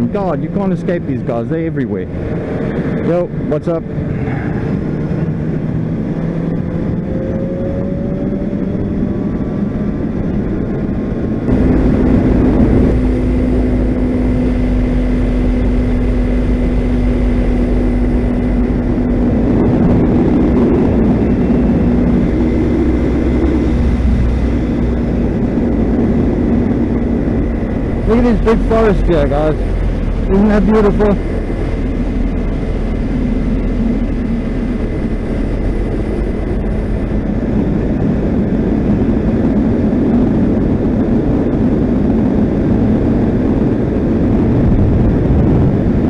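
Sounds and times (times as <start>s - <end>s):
motorcycle engine running: 0.0s - 46.0s
wind noise: 0.0s - 46.0s.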